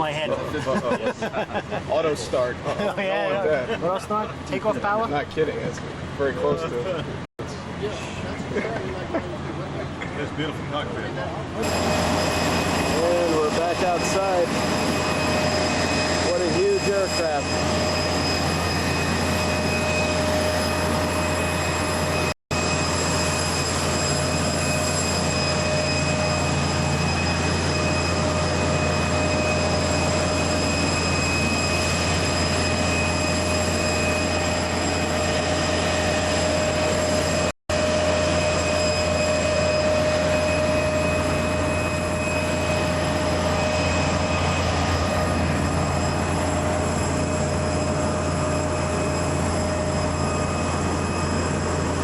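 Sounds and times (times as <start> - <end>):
jet turbine whine and rush: 0.0 - 52.0.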